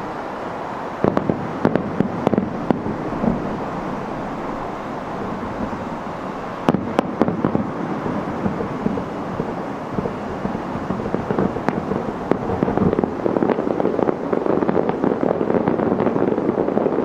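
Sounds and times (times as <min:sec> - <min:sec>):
distant firework bangs: 0:01.0 - 0:17.0.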